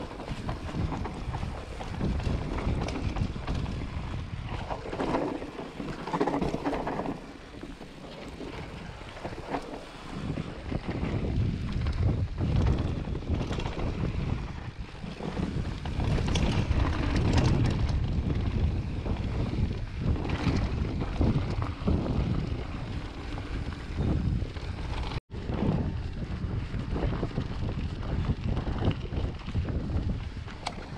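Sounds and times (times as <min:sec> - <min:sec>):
bike clattering over bumps: 0:00.0 - 0:30.9
wind buffeting microphone: 0:00.0 - 0:30.9.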